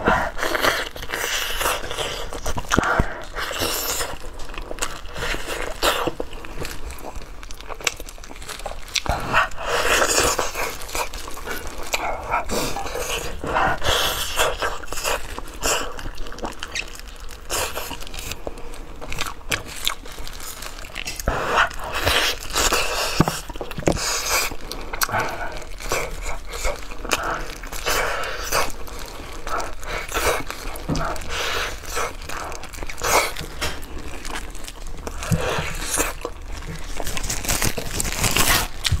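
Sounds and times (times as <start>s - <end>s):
close-miked chewing and lip-smacking: 0.1s - 39.0s.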